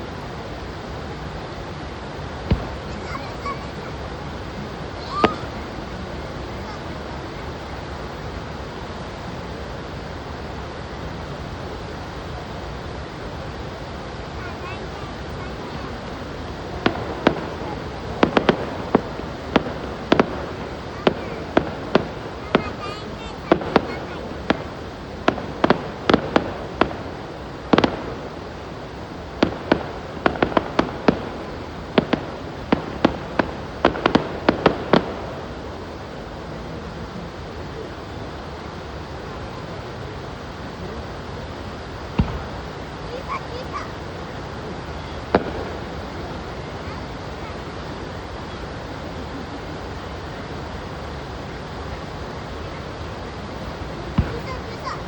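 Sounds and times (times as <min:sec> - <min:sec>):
fireworks bangs: 0:00.0 - 0:55.0
steady background hiss: 0:00.0 - 0:55.0
steady rushing noise: 0:00.0 - 0:55.0.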